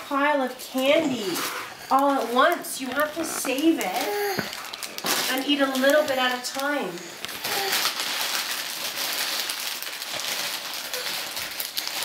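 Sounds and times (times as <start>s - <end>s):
candy wrapper crinkling: 1.2s - 12.0s.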